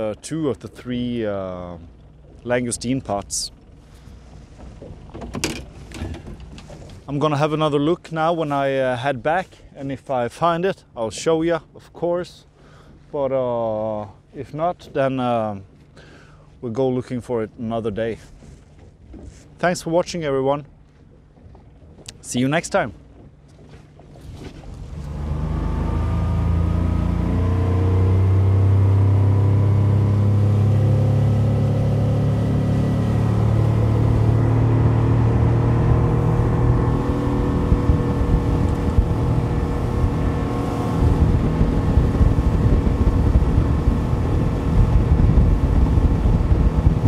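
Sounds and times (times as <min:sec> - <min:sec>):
boat motor running: 0:00.0 - 0:08.9, 0:17.8 - 0:47.0
rush of wind and water: 0:00.0 - 0:47.0.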